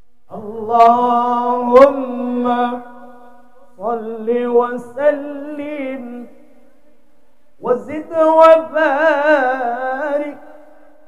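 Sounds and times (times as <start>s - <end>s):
man reciting melodically: 0.3s - 11.0s.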